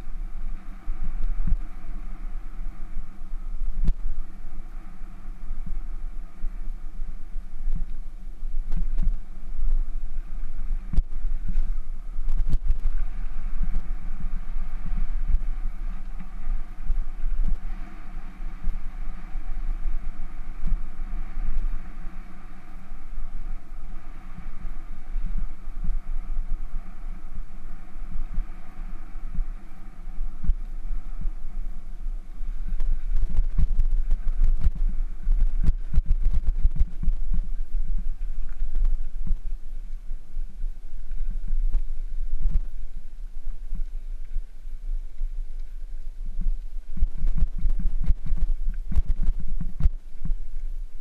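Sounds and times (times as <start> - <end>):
bicycle rolling over gravel: 0.0 - 51.0
wind rumble on microphone: 0.0 - 51.0.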